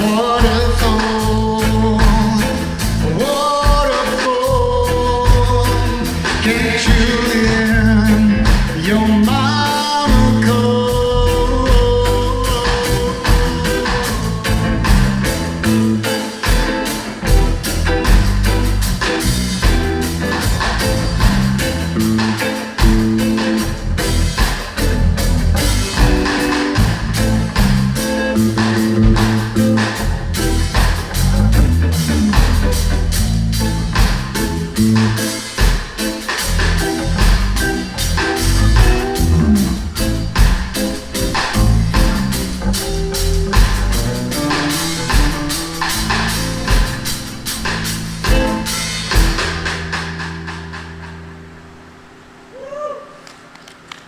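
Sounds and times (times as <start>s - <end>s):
instrumental rock trio playing: 0.0s - 52.5s.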